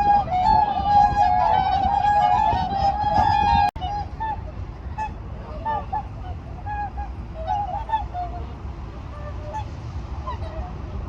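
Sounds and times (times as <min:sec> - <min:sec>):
steady low rumble: 0:00.0 - 0:11.0
swans honking: 0:00.0 - 0:11.0.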